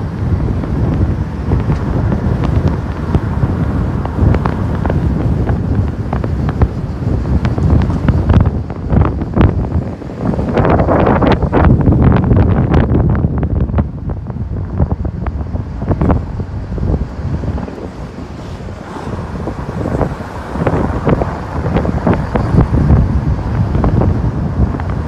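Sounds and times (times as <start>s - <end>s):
car road noise: 0.0s - 25.0s
wind buffeting microphone: 0.0s - 25.0s.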